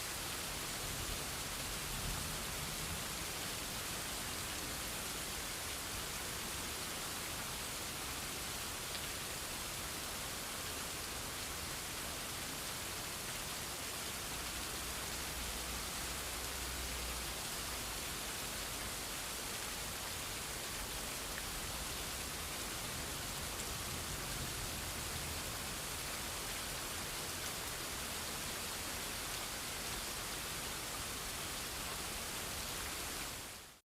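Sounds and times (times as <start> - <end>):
steady rainfall: 0.0 - 33.8.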